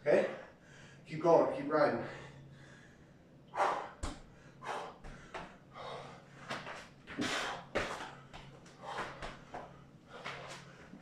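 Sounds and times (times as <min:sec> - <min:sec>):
man breathing hard: 0:00.2 - 0:01.1, 0:02.0 - 0:11.0.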